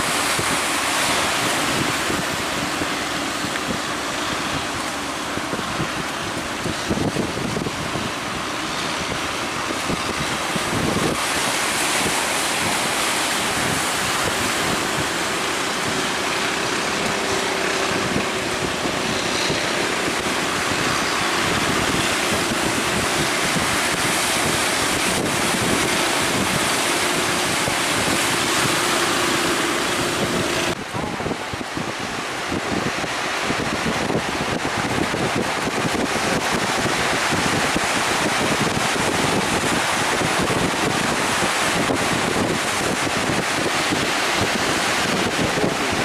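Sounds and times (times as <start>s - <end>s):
heavy surf breaking: 0.0s - 46.0s
wind buffeting microphone: 0.0s - 46.0s.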